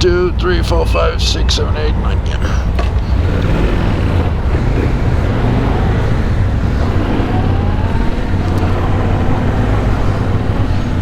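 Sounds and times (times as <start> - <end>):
motorcycle engine rumble: 0.0 - 11.0
road and wind noise: 0.0 - 11.0.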